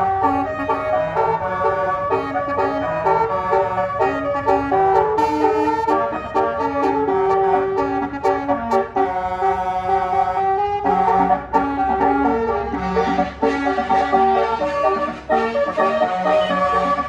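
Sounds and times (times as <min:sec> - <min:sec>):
melody of pitched notes: 0:00.0 - 0:17.0.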